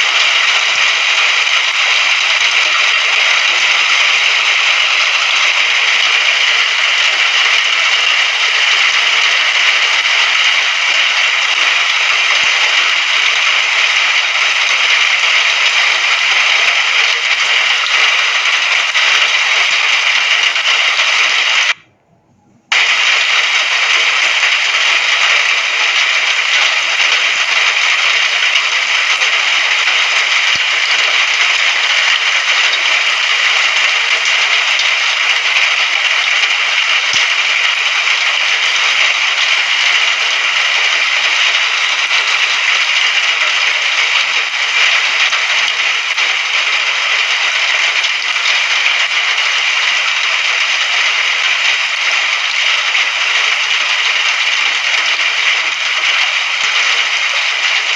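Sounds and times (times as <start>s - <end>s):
dense rainfall hissing: 0.0s - 21.8s, 22.7s - 57.9s.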